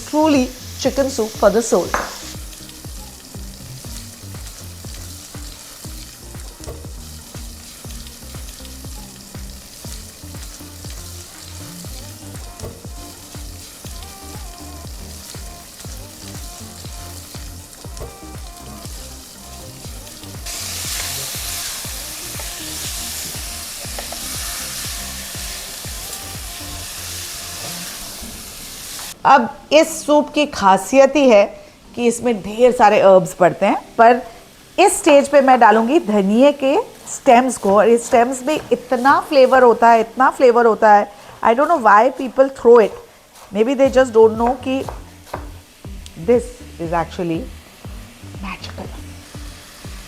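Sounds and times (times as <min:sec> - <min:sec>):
chicken and vegetables sizzling: 0:00.0 - 0:50.0
light background music: 0:00.0 - 0:50.0.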